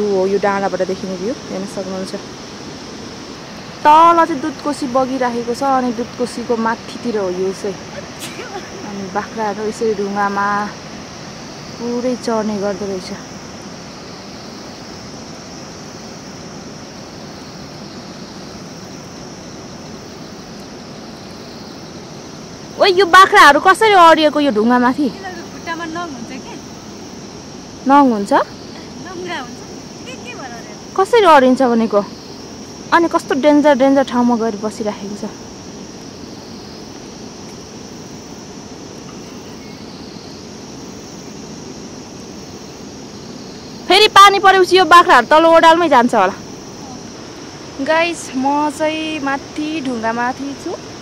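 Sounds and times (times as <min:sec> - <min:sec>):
distant river rushing: 0:00.0 - 0:51.0
insect drone: 0:00.0 - 0:51.0
steady high hiss: 0:00.0 - 0:51.0.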